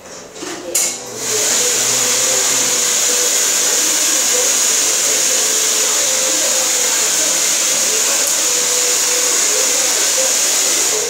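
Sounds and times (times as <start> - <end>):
hair dryer blowing: 1.0 - 11.0.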